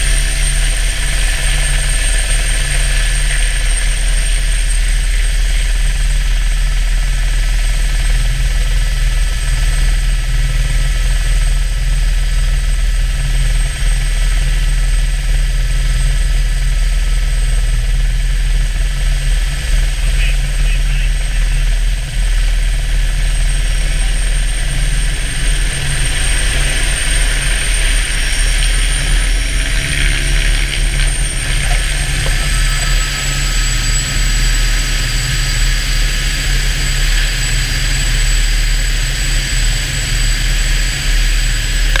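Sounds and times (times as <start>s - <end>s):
helicopter rotor low beat: 0.0s - 42.0s
helicopter turbine whine: 0.0s - 42.0s.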